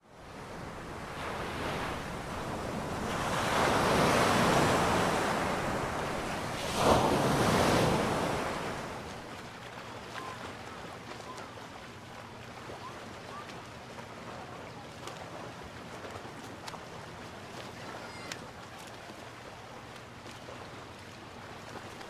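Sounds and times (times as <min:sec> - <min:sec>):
sea waves washing onto beach: 0:00.0 - 0:19.3.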